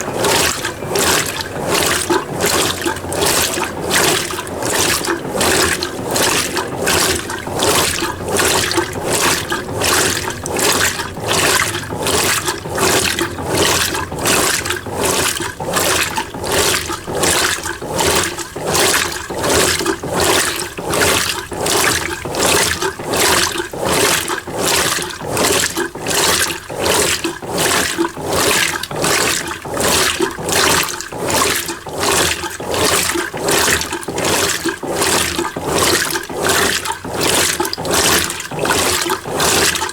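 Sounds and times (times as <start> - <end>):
washing machine water sloshing: 0.0 - 39.9.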